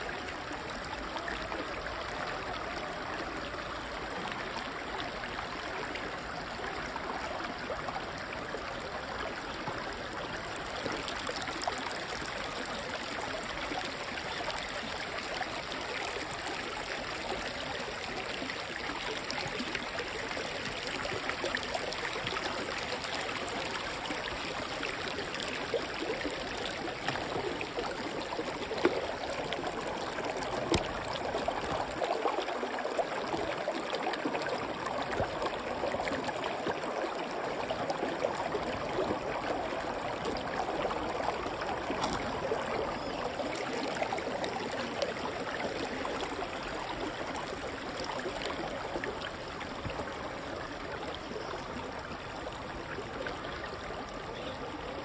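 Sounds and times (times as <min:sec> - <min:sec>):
creek water rushing over rocks: 0:00.0 - 0:55.0.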